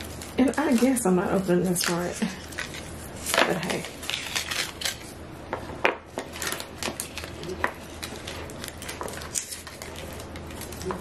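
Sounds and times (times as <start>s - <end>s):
paper wrapping crinkling: 0.0s - 5.2s, 6.1s - 11.0s.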